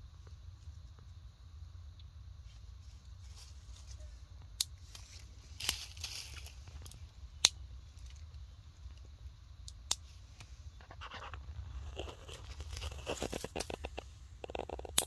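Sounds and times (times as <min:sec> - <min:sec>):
dry leaves and twigs crackling: 0:02.4 - 0:15.0.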